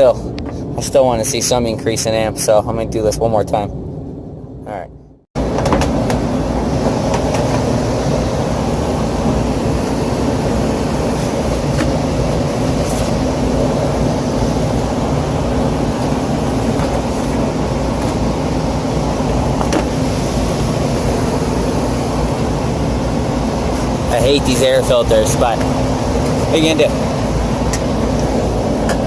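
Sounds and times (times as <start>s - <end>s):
rooftop unit fans whirring: 0.0s - 29.0s.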